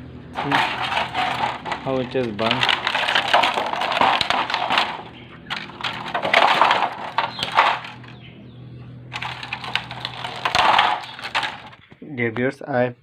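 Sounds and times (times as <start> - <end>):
handling crackling and crinkling: 0.4 - 8.1, 9.2 - 12.0.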